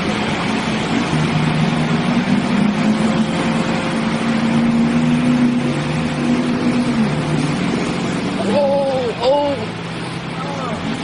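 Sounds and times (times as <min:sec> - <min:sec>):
loud vehicle noise: 0:00.0 - 0:11.0.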